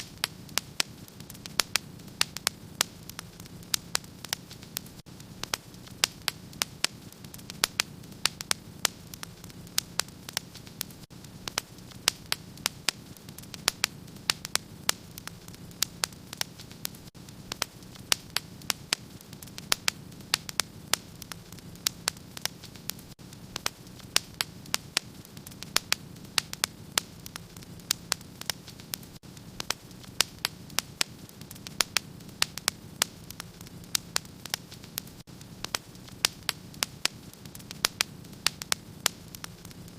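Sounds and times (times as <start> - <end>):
fire crackles and pops: 0.0 - 39.9
wood fire burning: 0.0 - 39.9.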